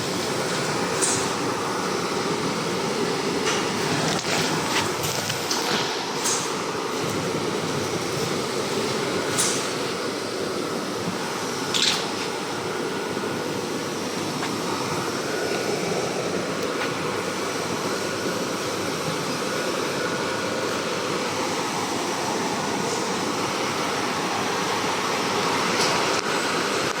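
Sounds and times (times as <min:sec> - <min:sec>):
packing machine running: 0:00.0 - 0:27.0.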